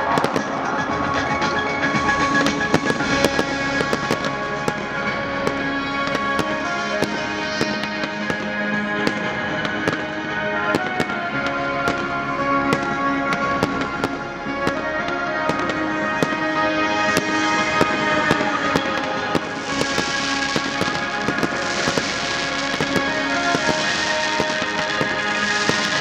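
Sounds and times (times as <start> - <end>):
fireworks bangs and crackles: 0.0 - 26.0
music with long held notes: 0.0 - 26.0.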